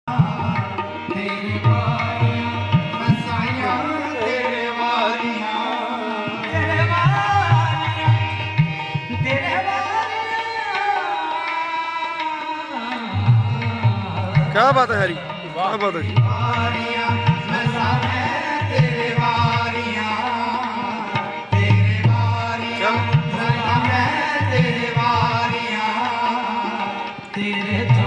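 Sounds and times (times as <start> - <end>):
harmonium: 0.0 - 28.0
tabla strokes: 0.1 - 28.0.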